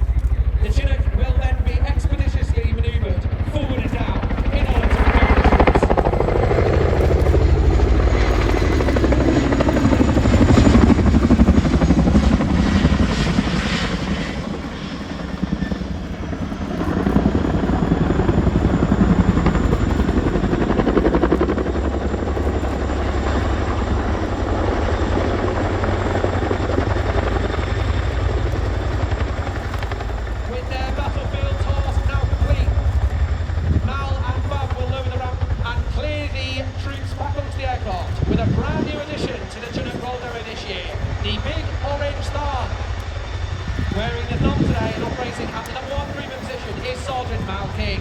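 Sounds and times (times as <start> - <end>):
helicopter rotors beating: 0.0 - 48.0.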